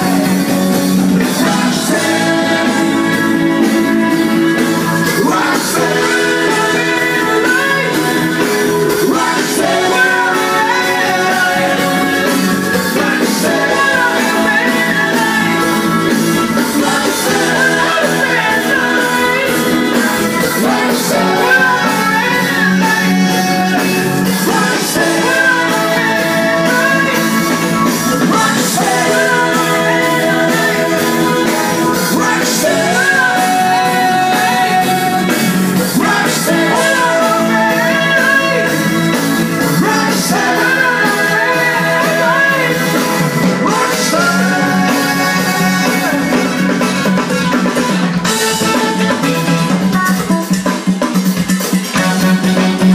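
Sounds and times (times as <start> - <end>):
rock song over loudspeakers: 0.0 - 52.9.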